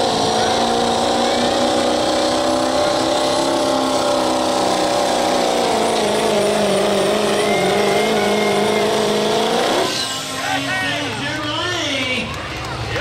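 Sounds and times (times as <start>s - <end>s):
diesel engine at full throttle: 0.0s - 13.0s.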